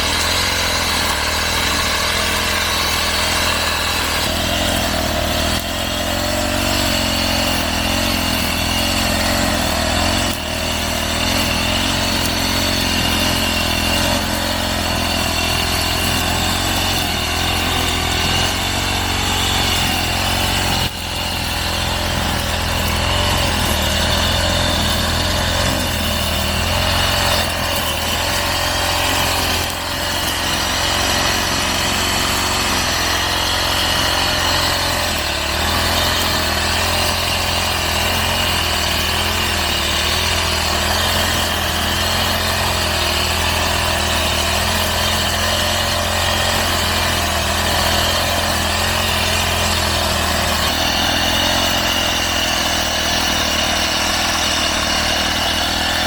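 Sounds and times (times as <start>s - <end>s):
brush cutter engine running: 0.0s - 56.0s.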